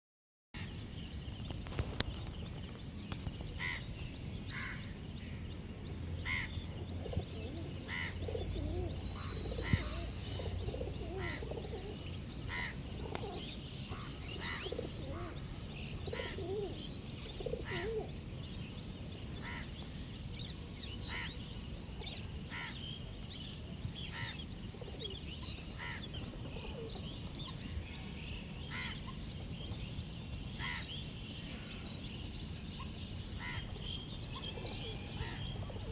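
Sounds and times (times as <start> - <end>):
lower wavering bird calls: 6.2 - 35.9.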